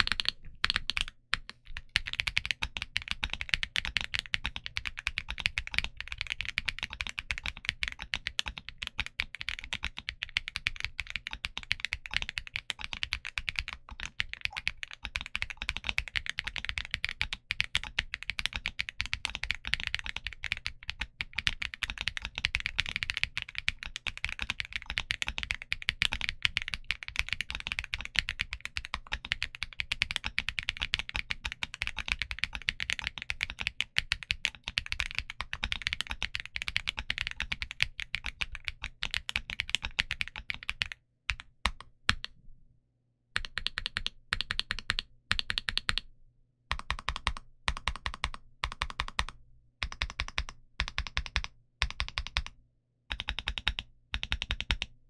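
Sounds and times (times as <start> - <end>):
fast mechanical keyboard typing: 0.0 - 42.3, 43.4 - 46.0, 46.7 - 52.5, 53.1 - 54.9.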